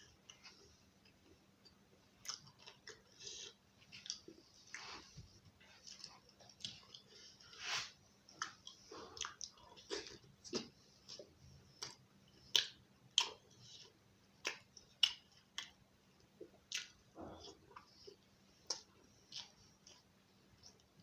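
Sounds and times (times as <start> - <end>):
close-up chewing and mouth sounds: 0.0 - 21.0.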